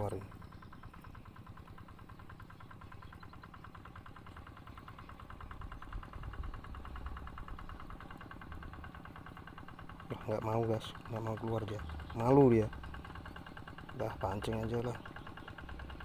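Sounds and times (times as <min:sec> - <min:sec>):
small engine idling: 0:00.0 - 0:16.0.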